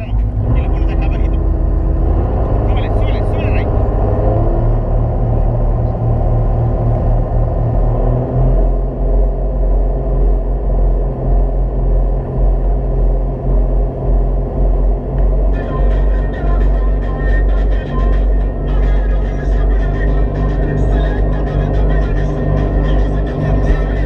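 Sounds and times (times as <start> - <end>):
speedboat engine rumbling: 0.0 - 24.0.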